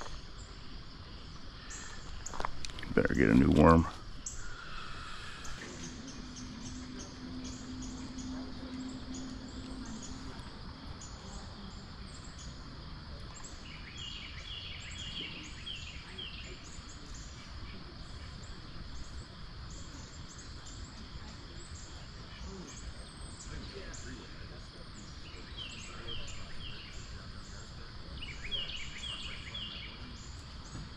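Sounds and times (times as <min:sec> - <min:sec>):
bird calls: 0:00.0 - 0:30.9.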